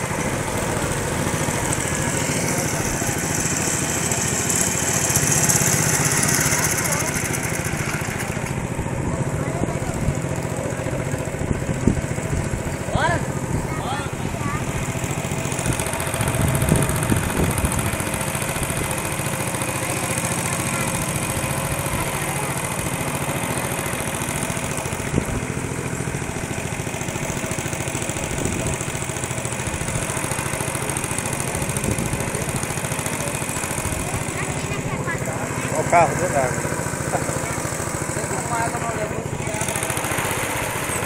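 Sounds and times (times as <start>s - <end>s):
small boat motor running: 0.0s - 41.0s.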